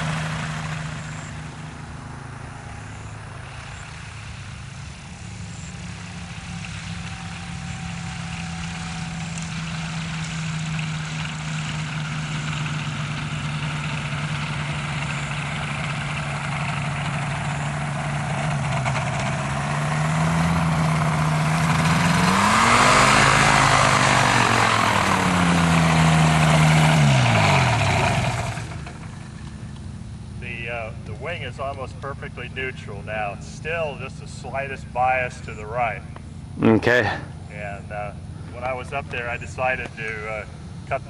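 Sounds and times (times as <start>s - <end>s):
engine winding down: 0.0s - 36.0s
two-stroke engine and propeller: 0.0s - 37.0s.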